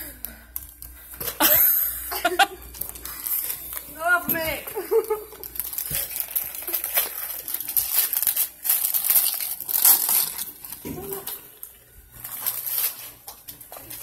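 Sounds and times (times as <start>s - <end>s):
gift wrap crinkling: 0.2s - 14.0s.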